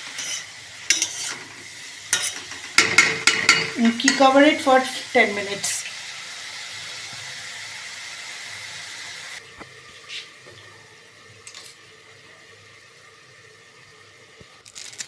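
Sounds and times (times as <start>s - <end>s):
filling sizzling in a frying pan: 0.0s - 15.0s.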